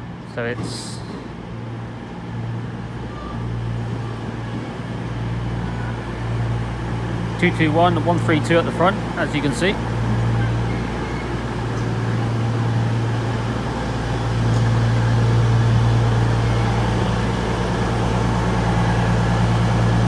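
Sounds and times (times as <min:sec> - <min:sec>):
train diesel engines humming: 0:00.0 - 0:20.0.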